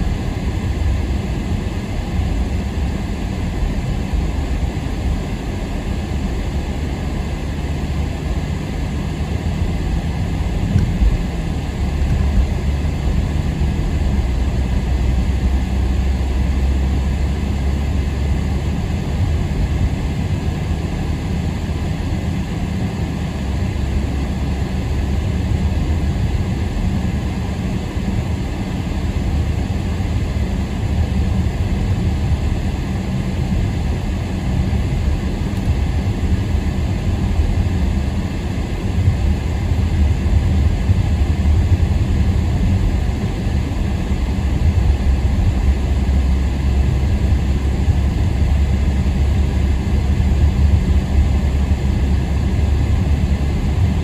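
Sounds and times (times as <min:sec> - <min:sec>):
car engine drone: 0:00.0 - 0:54.0
tyre road noise: 0:00.0 - 0:54.0.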